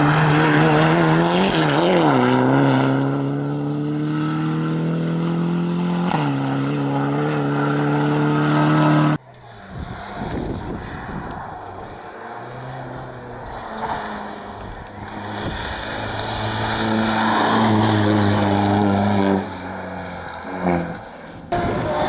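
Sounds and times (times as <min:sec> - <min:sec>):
rally car engine high revs: 0:00.0 - 0:22.0.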